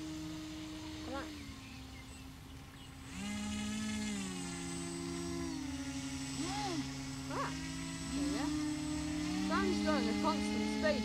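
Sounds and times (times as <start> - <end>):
model boat electric motors whining: 0.0 - 11.0.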